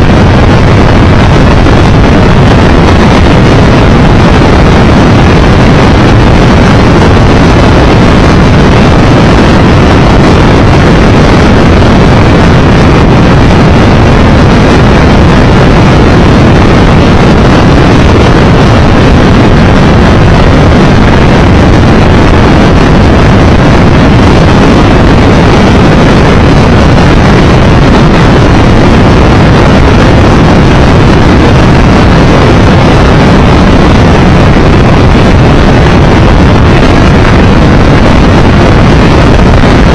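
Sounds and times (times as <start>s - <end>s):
wind roaring over microphone: 0.0s - 39.9s.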